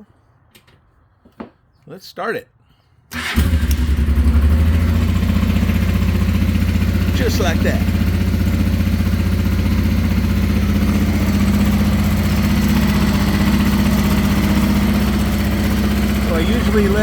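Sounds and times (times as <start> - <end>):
motorcycle engine idling: 3.2 - 17.0.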